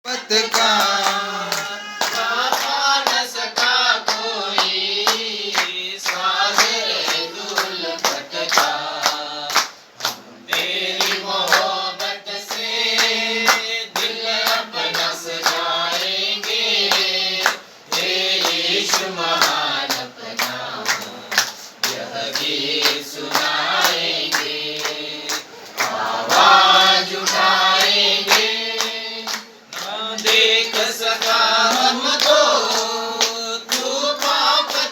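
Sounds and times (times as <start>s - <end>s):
choir singing: 0.1s - 34.9s.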